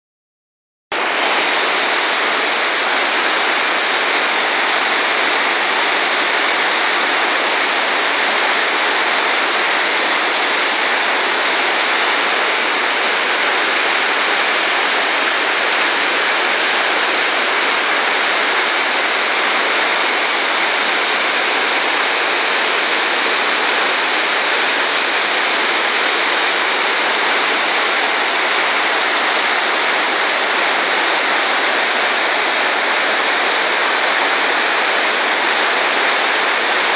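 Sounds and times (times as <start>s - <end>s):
waterfall rushing over boulders: 0.9s - 36.9s.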